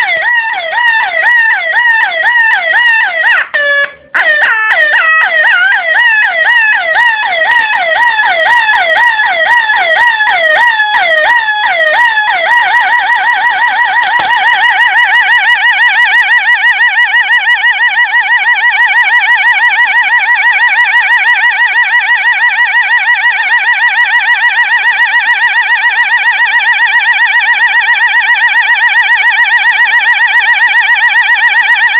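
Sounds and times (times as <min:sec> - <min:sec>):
electronic police siren: 0:00.0 - 0:31.9.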